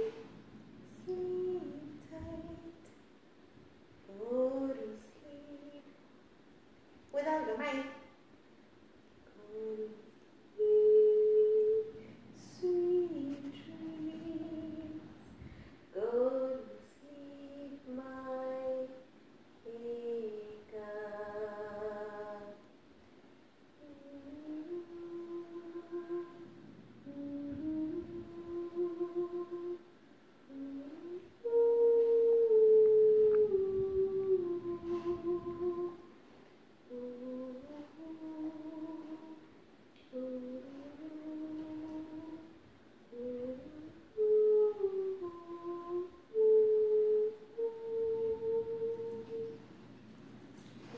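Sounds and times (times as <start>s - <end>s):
woman singing a lullaby: 0.0s - 3.0s, 4.0s - 6.0s, 7.1s - 8.2s, 9.2s - 22.7s, 23.8s - 49.8s.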